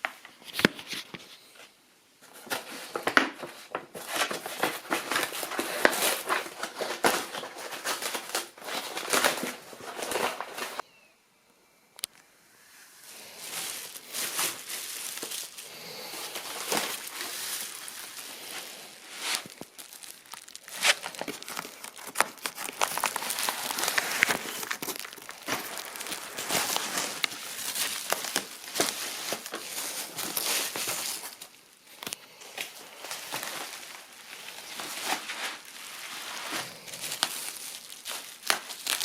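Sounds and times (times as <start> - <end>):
packaging crinkling and rustling: 2.2 - 10.8, 13.0 - 39.0.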